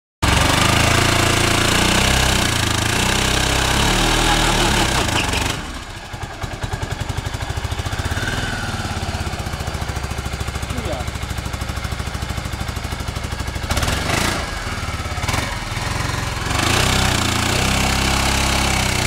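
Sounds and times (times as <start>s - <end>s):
scooter engine revving high: 0.2s - 19.0s.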